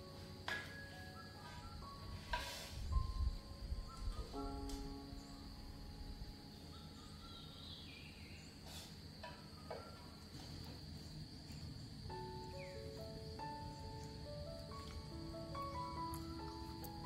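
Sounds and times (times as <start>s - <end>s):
high-pitched insect drone: 0.0s - 17.0s
light background music: 0.0s - 17.0s.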